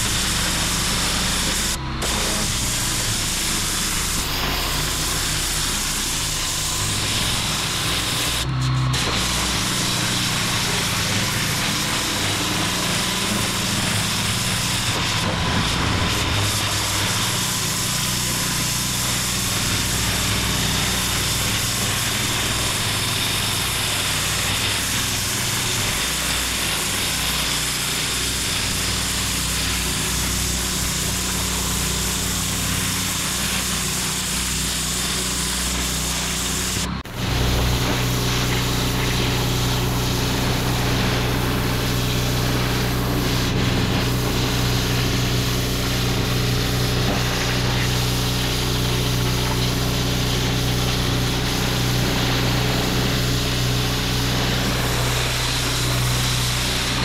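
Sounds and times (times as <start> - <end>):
pressure washer motor hum: 0.0 - 57.0
water jet hissing on paving: 0.0 - 57.0.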